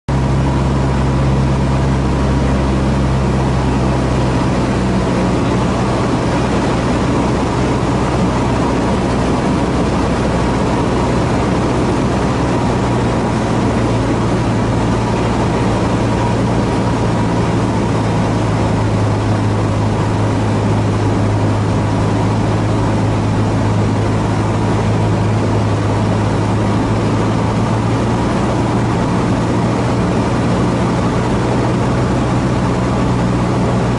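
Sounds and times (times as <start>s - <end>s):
propeller plane engine droning: 0.1s - 33.9s.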